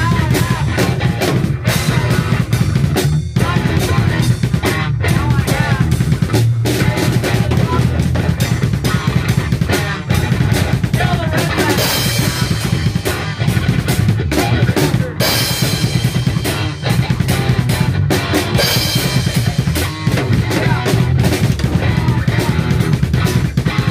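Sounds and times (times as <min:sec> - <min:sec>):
bass drum and snare: 0:00.0 - 0:23.9
loud drum-driven music: 0:00.0 - 0:23.9.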